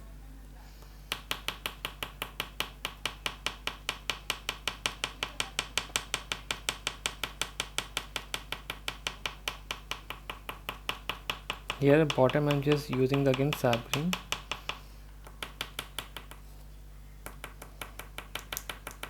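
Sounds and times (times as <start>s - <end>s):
pastel tapping on paper: 1.1s - 16.5s, 17.2s - 19.0s.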